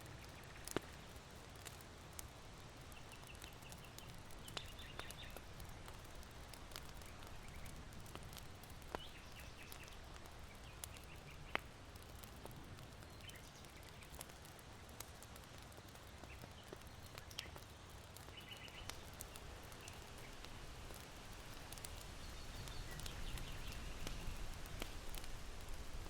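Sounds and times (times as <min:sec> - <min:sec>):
small birds chirping: 0:00.0 - 0:02.2, 0:02.8 - 0:25.9
charcoal crackling: 0:00.0 - 0:26.0
wind through bamboo: 0:00.0 - 0:26.0.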